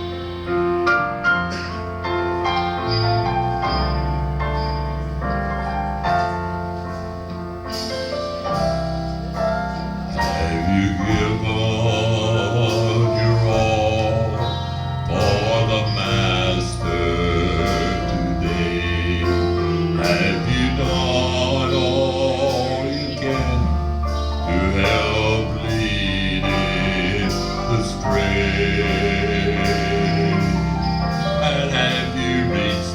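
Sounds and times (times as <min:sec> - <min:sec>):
keyboard accompaniment: 0:00.0 - 0:32.9
gospel quartet singing in harmony: 0:01.6 - 0:32.9.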